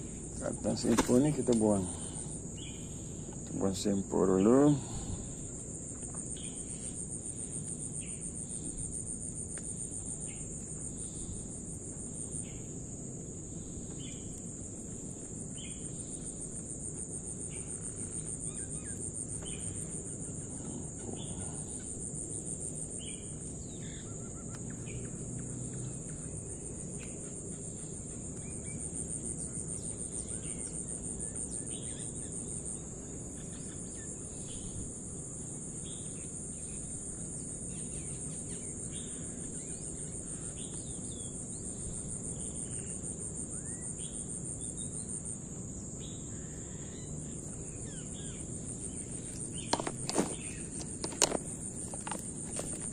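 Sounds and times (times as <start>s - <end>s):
insect chirring trill: 0.0s - 52.9s.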